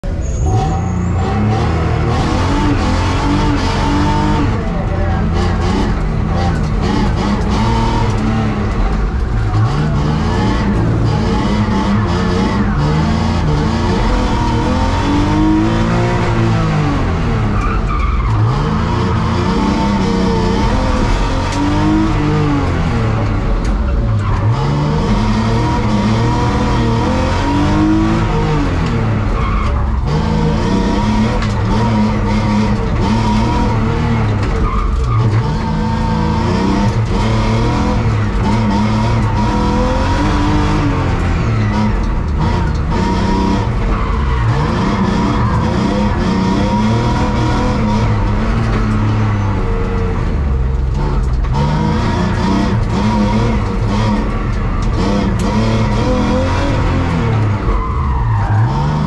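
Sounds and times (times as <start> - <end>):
tyre squeal and skidding: 0.0 - 4.4, 8.9 - 22.7, 23.9 - 50.0, 55.0 - 59.0
car engine revving: 0.0 - 59.0.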